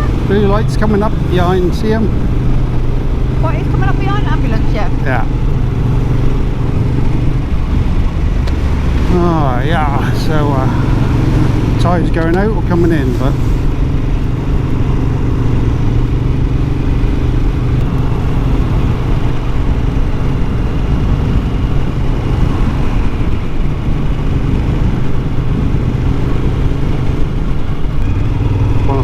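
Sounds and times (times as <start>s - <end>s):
motorcycle engine running: 0.0s - 29.0s
wind rumble: 0.0s - 29.0s.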